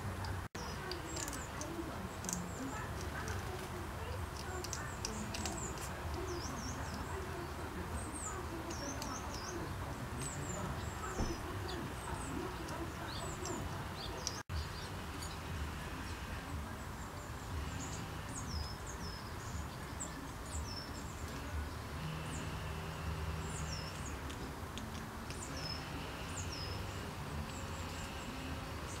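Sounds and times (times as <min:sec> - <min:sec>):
outdoor background rumble: 0:00.0 - 0:29.0
small bird calling: 0:00.2 - 0:29.0.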